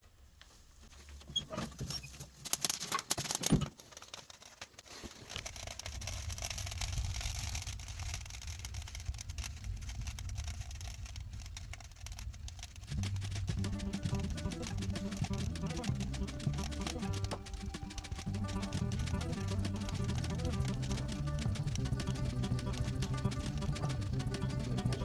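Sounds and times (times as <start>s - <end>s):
fir branches crackling and popping: 2.0s - 25.0s.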